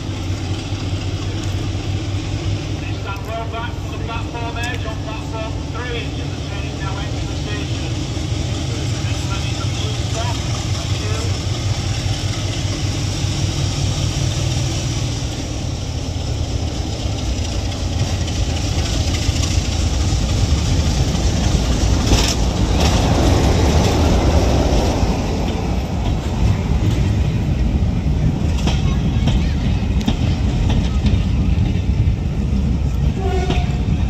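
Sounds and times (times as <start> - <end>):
diesel train engine rumbling: 0.0 - 34.0
rail noise: 0.0 - 34.0.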